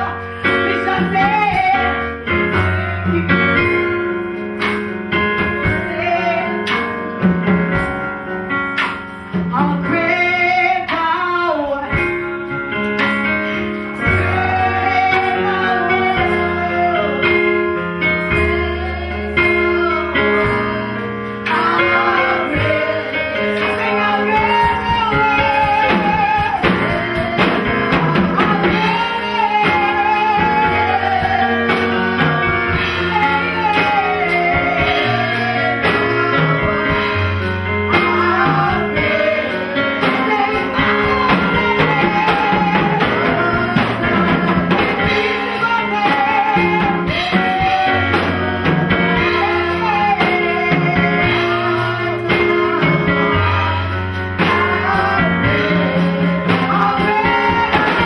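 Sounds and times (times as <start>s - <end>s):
woman singing into microphone: 0.0s - 3.7s, 5.4s - 7.0s, 9.4s - 12.4s, 13.9s - 58.0s
live band playing: 0.0s - 58.0s.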